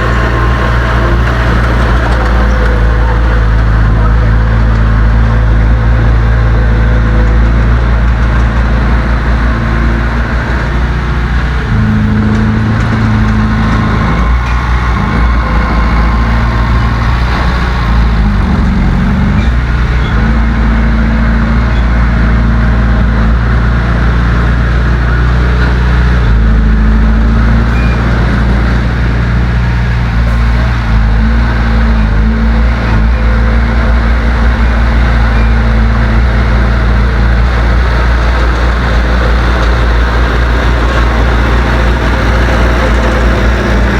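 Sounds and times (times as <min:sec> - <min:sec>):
heavy diesel engine working: 0:00.0 - 0:43.9.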